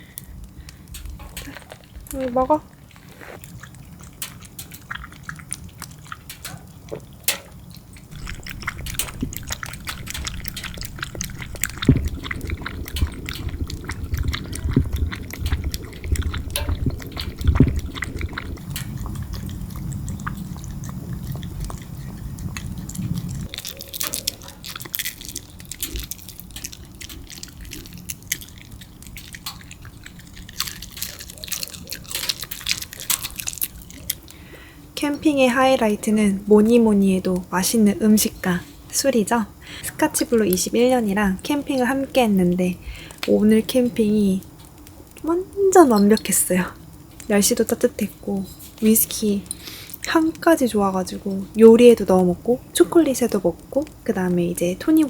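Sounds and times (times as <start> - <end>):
dog crunching dry food: 0.0 - 39.1, 39.7 - 55.0
low steady rumble: 0.0 - 55.0.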